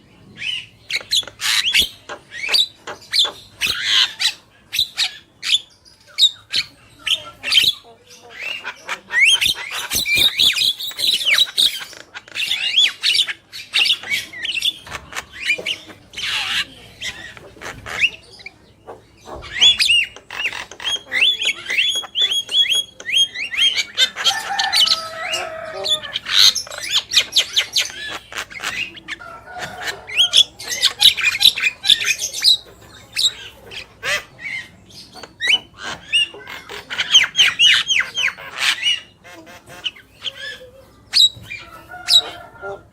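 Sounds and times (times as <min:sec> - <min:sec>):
mynas chattering and singing: 0:00.0 - 0:42.9.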